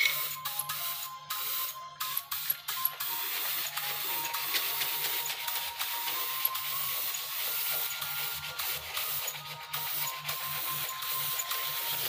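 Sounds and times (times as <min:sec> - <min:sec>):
spray gun hissing: 0:00.0 - 0:12.0.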